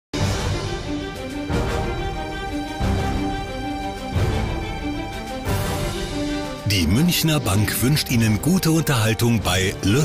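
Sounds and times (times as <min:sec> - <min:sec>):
television theme music: 0:00.2 - 0:10.0.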